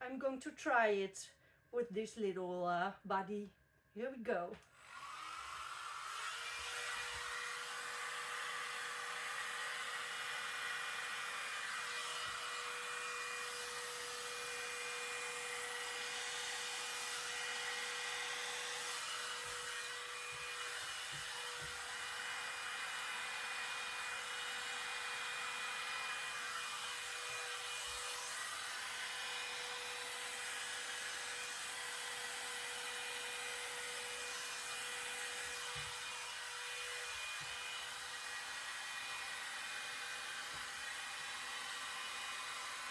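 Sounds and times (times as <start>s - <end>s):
small hairdryer running: 4.6s - 42.9s.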